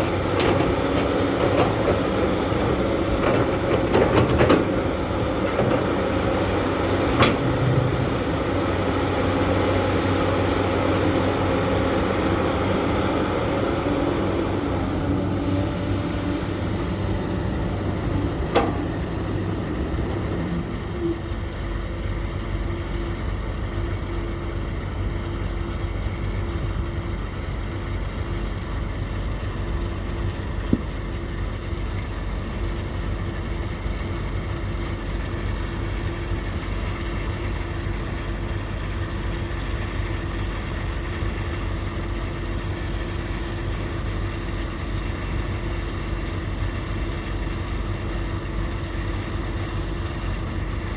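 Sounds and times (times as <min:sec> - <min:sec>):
earthmoving machine engine idling: 0:00.0 - 0:50.9.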